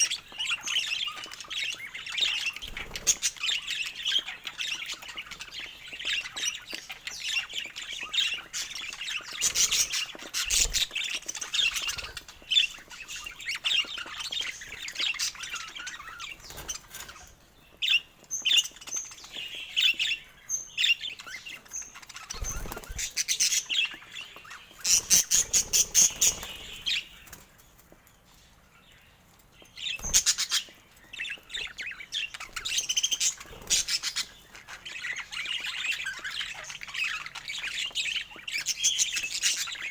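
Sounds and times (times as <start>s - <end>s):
budgerigars chattering: 0.0s - 27.2s, 29.8s - 39.9s.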